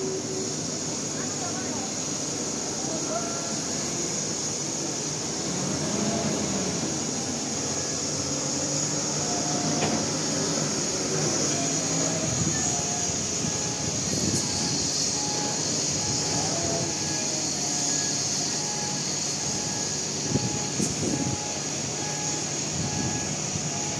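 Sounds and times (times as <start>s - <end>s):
constant high hiss: 0.0s - 23.9s
diesel truck engine rumbling: 0.0s - 23.9s.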